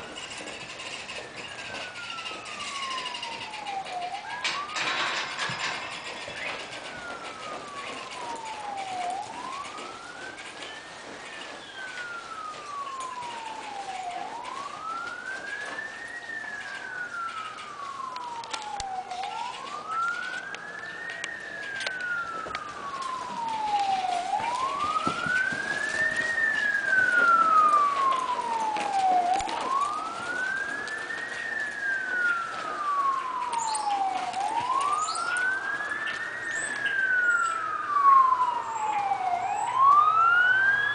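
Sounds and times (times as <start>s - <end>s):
siren wailing: 0.0s - 40.9s.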